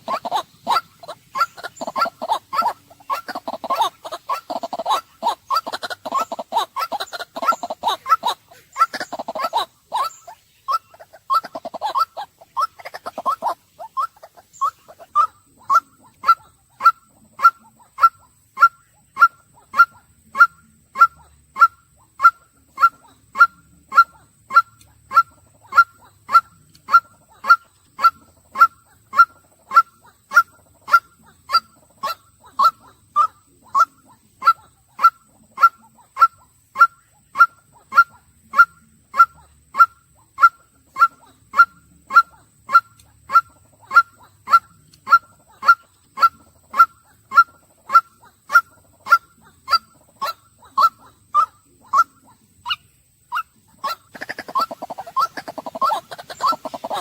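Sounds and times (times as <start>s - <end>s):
waterhen calling: 0.0s - 57.0s.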